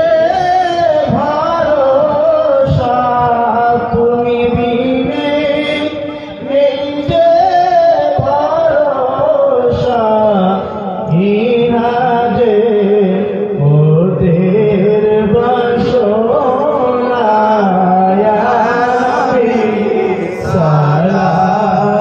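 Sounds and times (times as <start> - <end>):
men singing devotional chant: 0.0 - 22.0.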